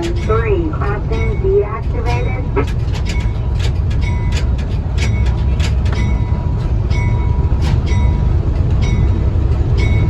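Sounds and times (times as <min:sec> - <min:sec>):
railway car rumbling on track: 0:00.0 - 0:10.0
wheels squeaking on rails: 0:00.0 - 0:10.0.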